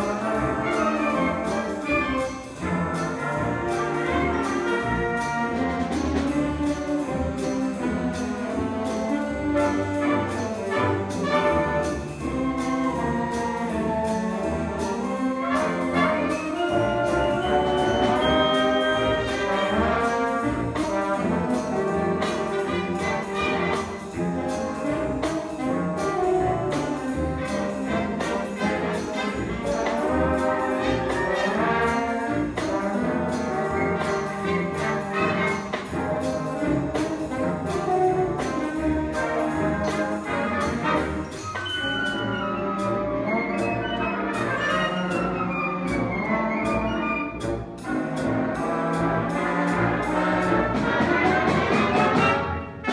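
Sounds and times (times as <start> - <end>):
concert band playing swing: 0.0 - 52.9
trumpets and trombones: 0.0 - 52.9.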